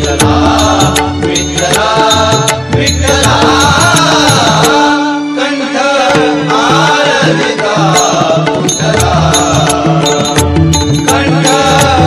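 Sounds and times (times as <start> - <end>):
devotional melody: 0.0 - 12.0
steady percussion: 0.0 - 12.0.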